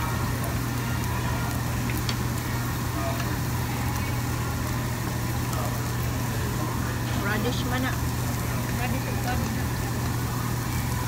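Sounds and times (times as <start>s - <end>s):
exhaust fan hum: 0.0s - 11.0s
meat sizzling on grill: 0.0s - 11.0s.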